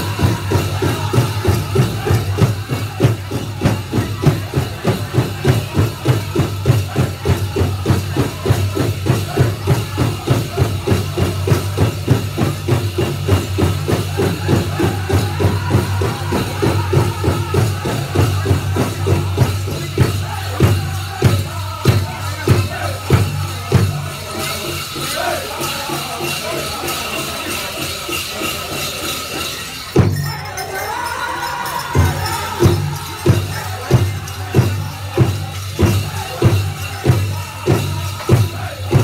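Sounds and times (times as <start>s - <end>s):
big drum beating fast: 0.0s - 26.9s, 31.9s - 39.0s
group singing: 0.0s - 39.0s
jingling bells: 0.0s - 39.0s.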